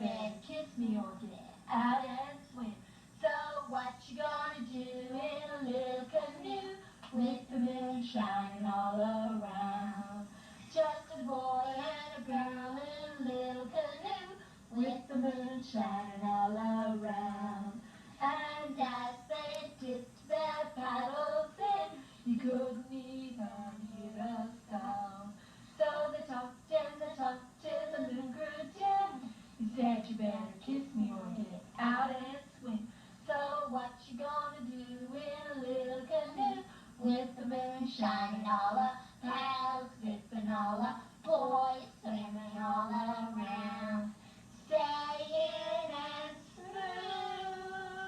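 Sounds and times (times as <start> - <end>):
girl singing: 0.0 - 48.0.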